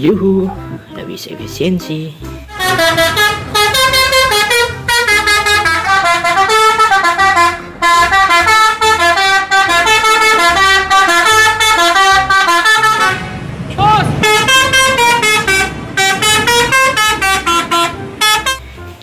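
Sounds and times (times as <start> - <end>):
musical bus horn tune: 1.9 - 19.0.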